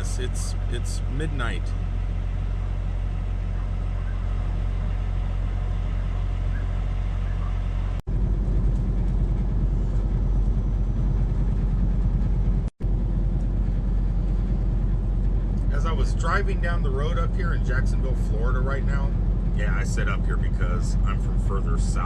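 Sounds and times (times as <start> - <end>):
engine and road rumble in cab: 0.0 - 22.0.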